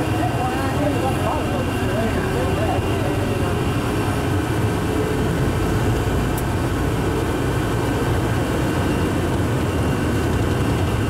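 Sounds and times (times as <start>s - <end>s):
train rumbling through tunnel: 0.0s - 11.0s.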